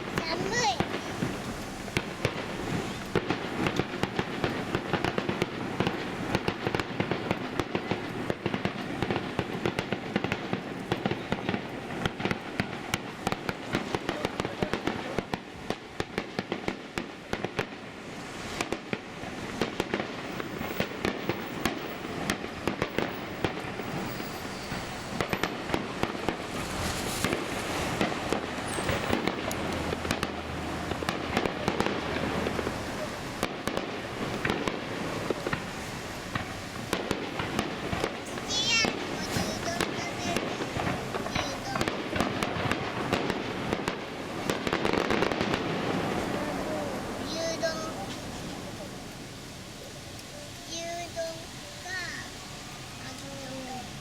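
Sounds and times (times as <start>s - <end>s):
fireworks popping and cracking: 0.0s - 54.0s.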